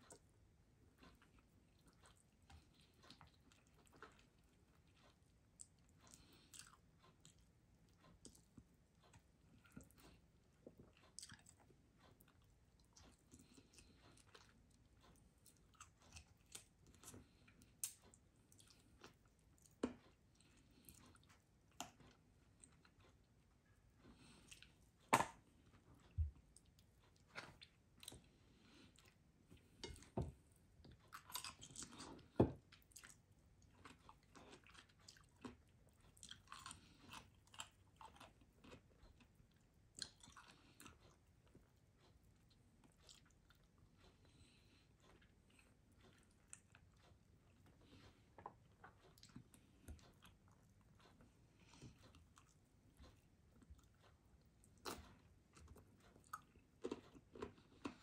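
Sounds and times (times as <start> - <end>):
chewing and wet mouth smacks: 1.0 - 23.2, 30.9 - 44.2, 45.0 - 58.0.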